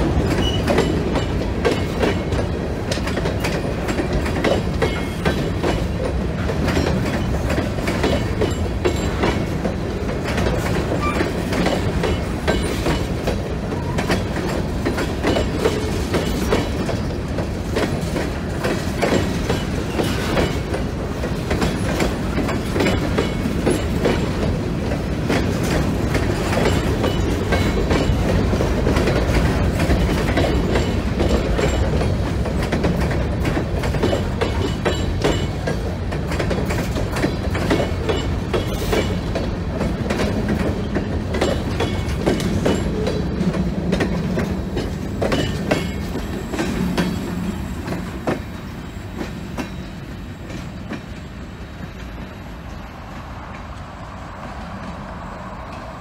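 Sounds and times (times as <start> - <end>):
low train rumble: 0.0 - 56.0
train wheels clicking over rail joints: 0.0 - 56.0.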